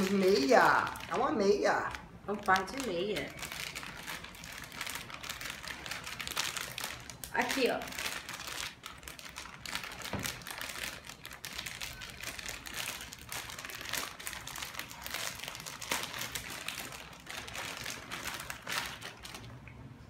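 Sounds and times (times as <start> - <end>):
packaging crinkling and rustling: 0.0 - 19.8.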